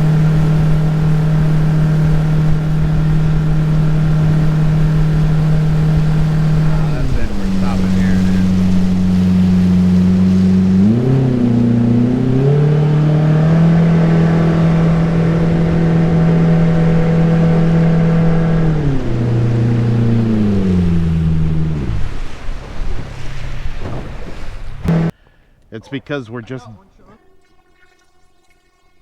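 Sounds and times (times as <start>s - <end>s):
jet boat motor running: 0.0s - 25.1s.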